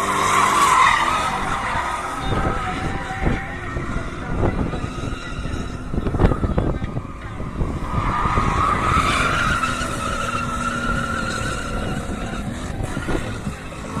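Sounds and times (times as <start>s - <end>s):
car engine: 0.0s - 14.0s
tyres squealing: 0.0s - 14.0s.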